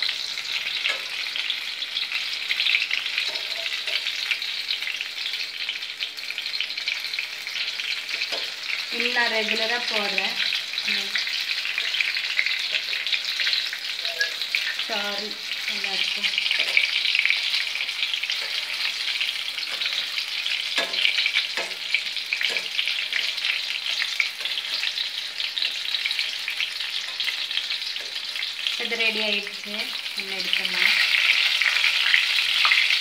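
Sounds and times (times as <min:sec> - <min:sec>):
food deep-frying in hot oil: 0:00.0 - 0:33.0.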